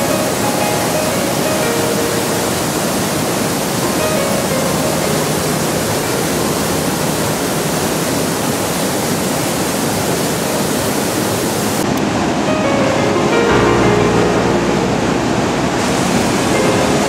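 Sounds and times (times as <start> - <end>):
large waterfall rushing: 0.0 - 17.0.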